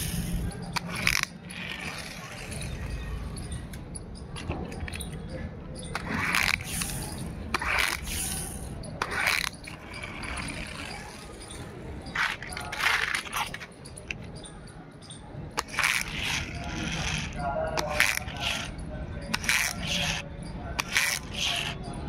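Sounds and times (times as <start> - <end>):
toy car wheels scraping on concrete: 0.0 - 5.2, 5.8 - 14.5, 15.5 - 22.0.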